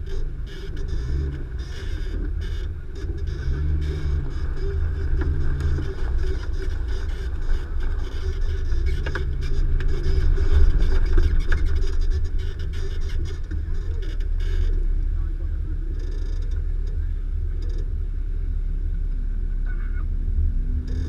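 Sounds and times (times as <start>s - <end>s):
sharp knocks and creaks: 0.0s - 18.1s, 20.6s - 21.0s
engine low rumble: 0.0s - 21.0s.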